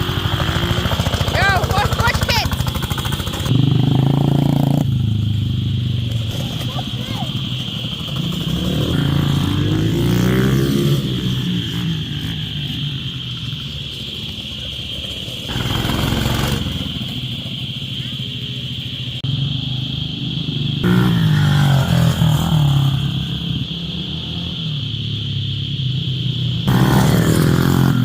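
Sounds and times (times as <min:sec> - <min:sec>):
small engine revving: 0:00.0 - 0:18.4, 0:19.2 - 0:28.0.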